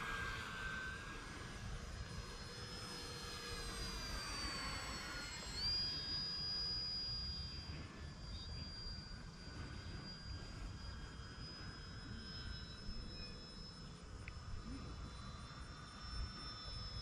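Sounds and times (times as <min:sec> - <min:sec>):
model airplane motors whining: 0:00.0 - 0:17.0.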